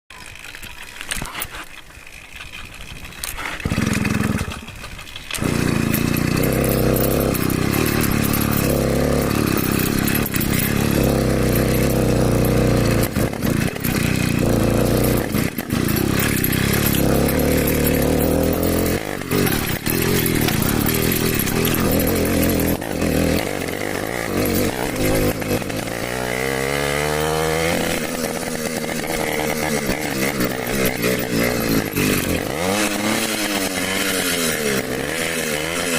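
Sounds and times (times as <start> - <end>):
small motorcycle engine revving: 0.2 - 35.9.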